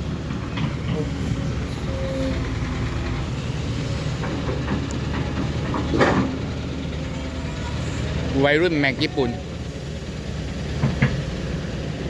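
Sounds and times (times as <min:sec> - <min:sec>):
diesel truck engines rumbling: 0:00.0 - 0:12.0.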